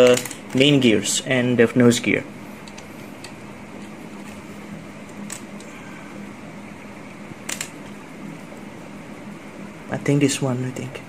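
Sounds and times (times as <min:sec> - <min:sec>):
room fan humming: 0:00.0 - 0:11.0.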